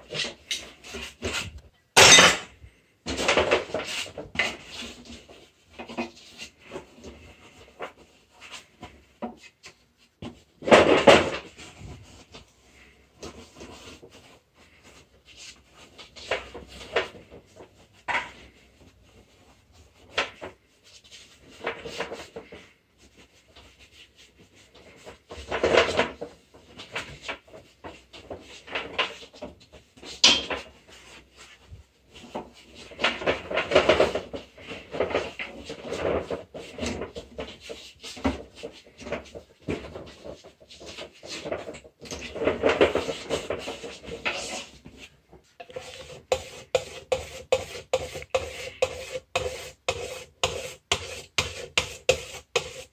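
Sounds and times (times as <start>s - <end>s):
knocks and scrapes from handling: 0.0s - 52.9s.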